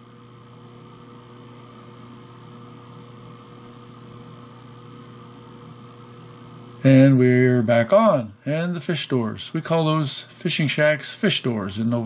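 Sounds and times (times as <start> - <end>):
electrical hum with hiss: 0.0 - 12.0.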